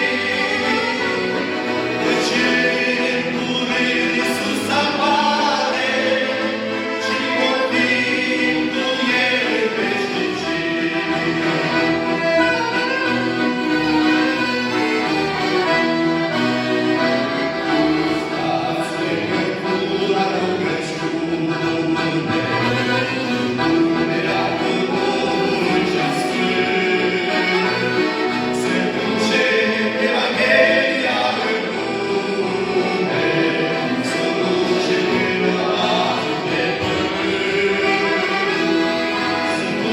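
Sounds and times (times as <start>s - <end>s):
group singing a hymn: 0.0s - 39.9s
instrumental accompaniment: 0.0s - 39.9s.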